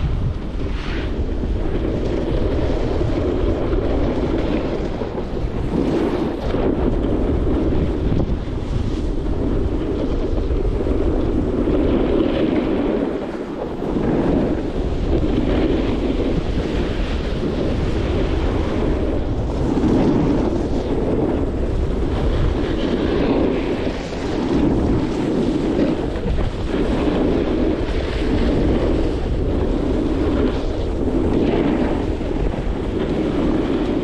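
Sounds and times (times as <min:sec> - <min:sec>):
skis carving packed snow: 0:00.0 - 0:34.0
wind rushing over microphone: 0:00.0 - 0:34.0.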